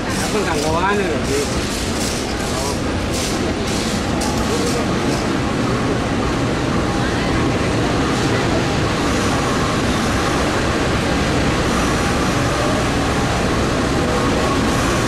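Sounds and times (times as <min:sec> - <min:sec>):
train rumble with rail noise: 0:00.0 - 0:15.0.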